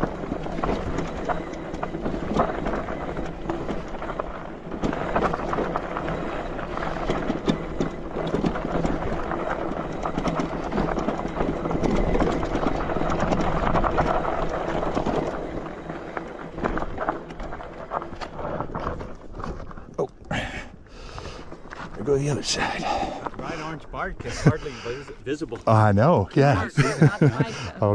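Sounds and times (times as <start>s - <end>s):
tyres crunching over stones: 0.0s - 23.7s
bike rattling: 0.0s - 27.9s.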